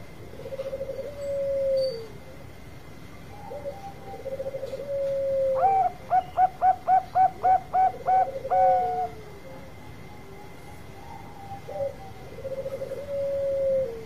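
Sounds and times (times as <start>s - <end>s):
dove staccato cooing song: 0.0s - 2.4s, 3.3s - 14.0s
low rolling coo: 0.2s - 2.2s, 3.3s - 14.0s.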